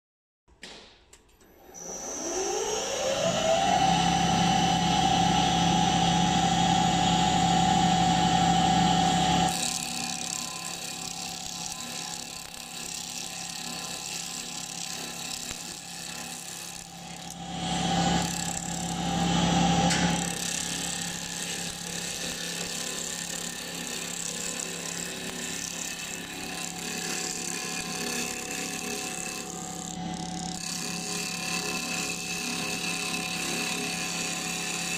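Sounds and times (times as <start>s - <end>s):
lathe spindle motor whining: 1.6s - 34.9s
lathe tool cutting wood: 1.7s - 34.9s.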